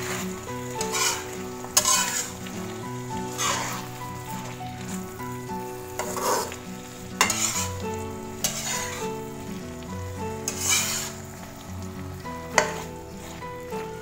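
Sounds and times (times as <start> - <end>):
spatula scraping a wok: 0.0 - 11.6, 12.2 - 14.0
background music: 0.0 - 14.0
food sizzling: 0.0 - 14.0.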